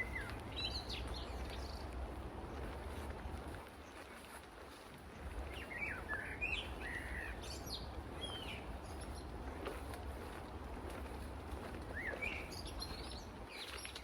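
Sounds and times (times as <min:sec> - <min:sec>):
street ambience rumble: 0:00.0 - 0:13.5
small birds chirping: 0:00.0 - 0:14.0.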